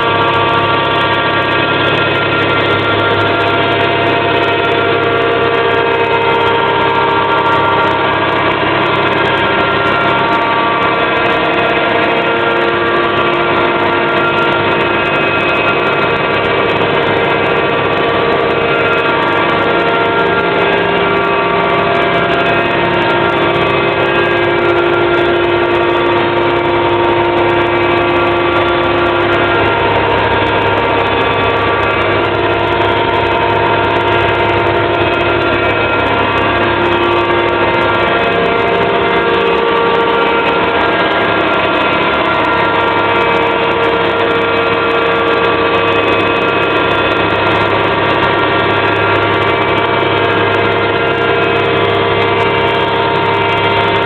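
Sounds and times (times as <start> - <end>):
milling machine whine: 0.0 - 54.0.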